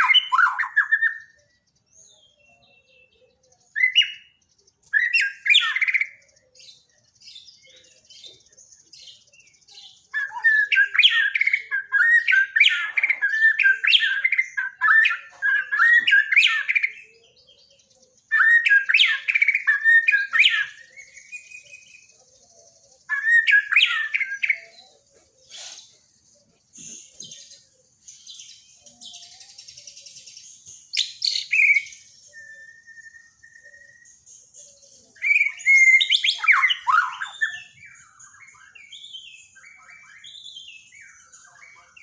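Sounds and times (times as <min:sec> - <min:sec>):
bird singing whistled phrases: 0:00.0 - 0:26.0, 0:26.8 - 0:42.0.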